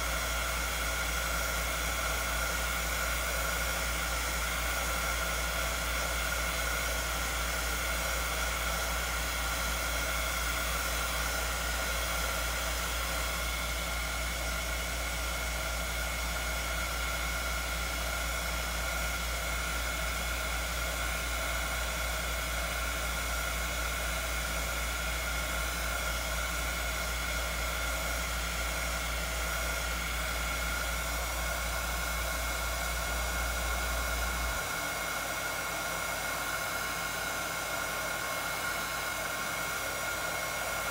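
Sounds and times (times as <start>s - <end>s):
hot-air blower rushing with fan whine: 0.0s - 40.9s.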